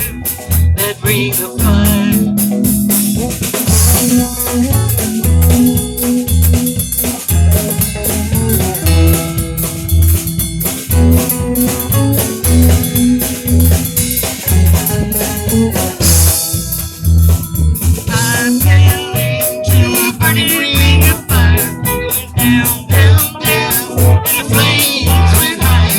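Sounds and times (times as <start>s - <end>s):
band playing: 0.0s - 25.9s.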